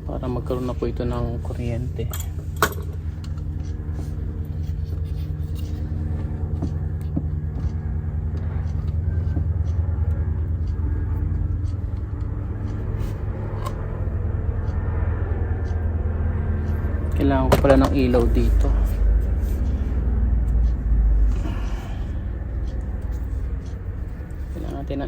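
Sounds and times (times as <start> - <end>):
low rumble and hum: 0.0 - 25.0.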